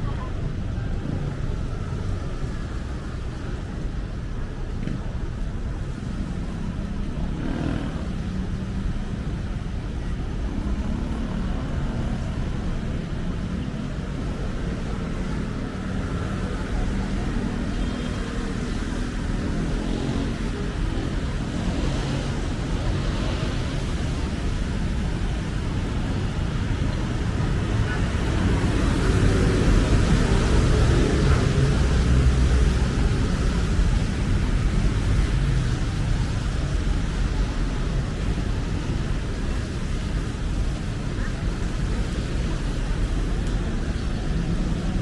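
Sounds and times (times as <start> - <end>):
passing car traffic rumble: 0.0 - 45.0.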